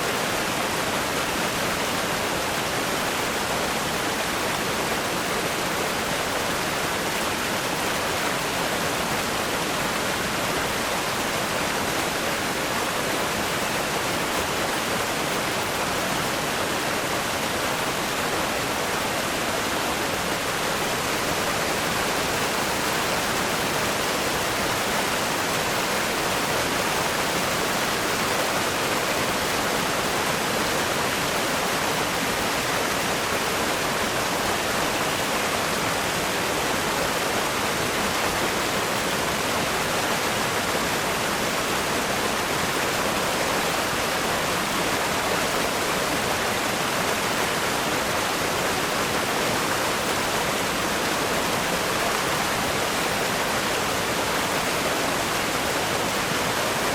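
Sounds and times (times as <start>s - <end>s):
river rapids rushing over rocks: 0.0s - 56.9s.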